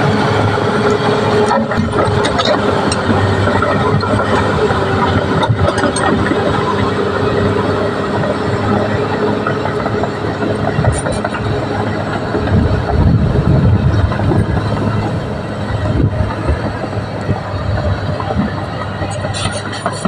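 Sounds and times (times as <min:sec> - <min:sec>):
bulldozer diesel engine: 0:00.0 - 0:20.0
steel tracks clanking: 0:00.0 - 0:20.0.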